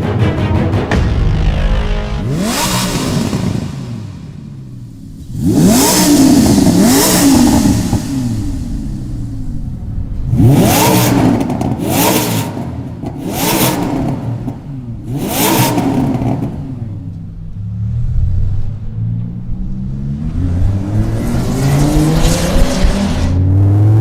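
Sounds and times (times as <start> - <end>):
sports car engine revving: 0.8 - 24.0.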